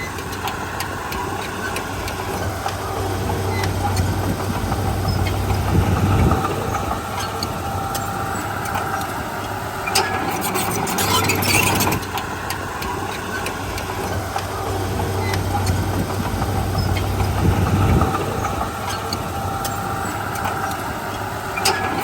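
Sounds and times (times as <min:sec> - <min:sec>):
bulldozer diesel engine running: 0:01.8 - 0:12.8, 0:13.5 - 0:22.0.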